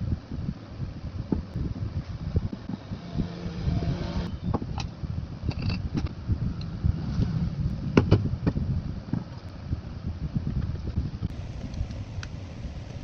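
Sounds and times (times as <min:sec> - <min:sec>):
ceiling fan wind rumble: 0:00.0 - 0:13.0.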